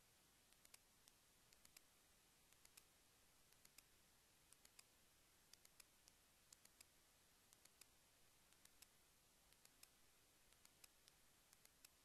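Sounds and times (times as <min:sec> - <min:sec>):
faint hiss: 0:00.0 - 0:12.0
faint sharp clicks: 0:00.5 - 0:01.9, 0:02.5 - 0:12.0.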